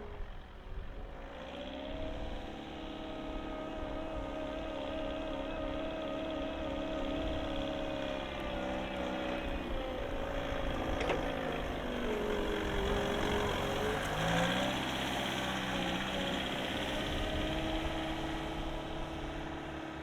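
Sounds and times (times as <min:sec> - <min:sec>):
forklift diesel engine running: 0:00.0 - 0:20.0.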